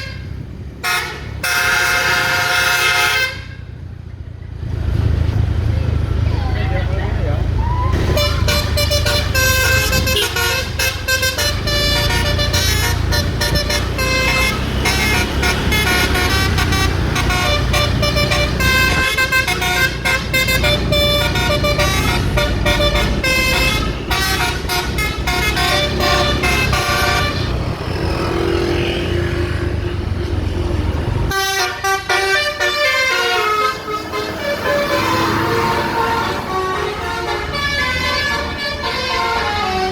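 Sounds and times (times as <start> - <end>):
bus horn playing melody: 0.0 - 3.8, 8.0 - 27.8, 31.3 - 39.9.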